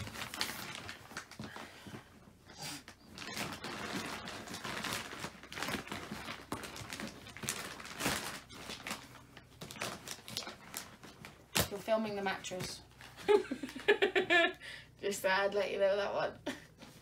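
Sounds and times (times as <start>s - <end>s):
plastic wrapping rustling: 0.0s - 14.2s.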